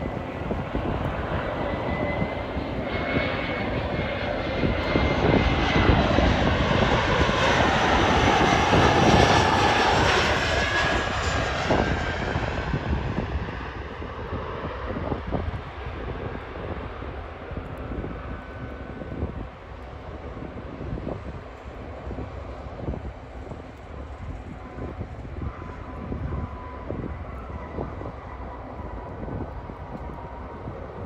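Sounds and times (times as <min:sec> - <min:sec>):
jet airliner roar passing: 0:00.0 - 0:31.0
jet engine whining tone: 0:00.0 - 0:31.0.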